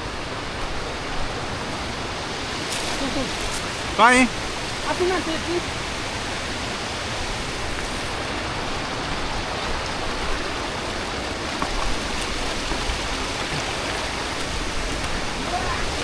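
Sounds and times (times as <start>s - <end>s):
waterfall roaring: 0.0s - 16.0s
wind buffeting microphone: 0.0s - 16.0s.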